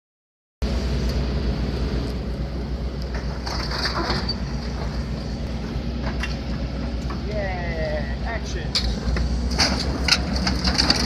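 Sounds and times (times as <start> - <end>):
excavator diesel engine droning: 0.6 - 11.0.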